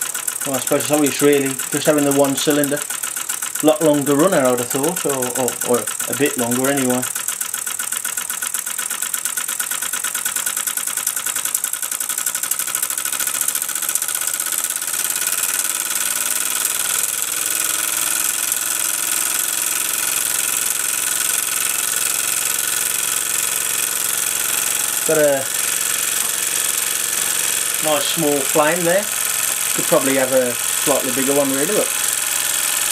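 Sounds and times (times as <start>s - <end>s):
model steam engine running: 0.0s - 32.9s.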